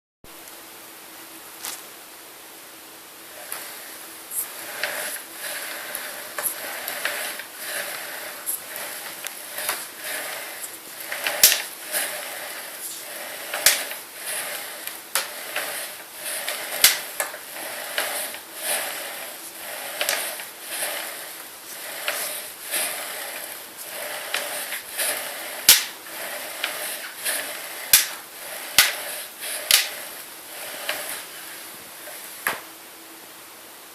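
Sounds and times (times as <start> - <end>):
bicycle fork clicking and creaking: 4.4 - 32.5.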